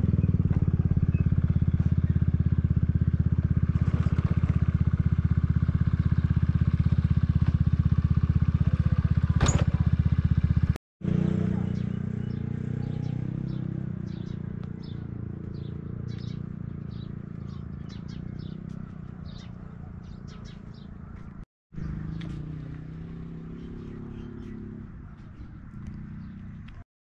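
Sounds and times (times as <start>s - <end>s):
birds chirping: 0.0s - 3.7s, 4.7s - 26.8s
small engine droning: 0.0s - 26.8s.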